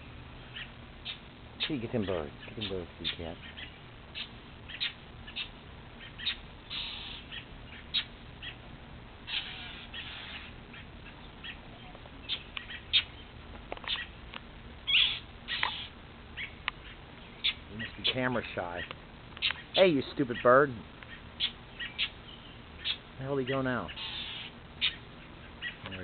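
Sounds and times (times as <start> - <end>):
low background hum: 0.0 - 26.0
bird chirping: 0.4 - 26.0.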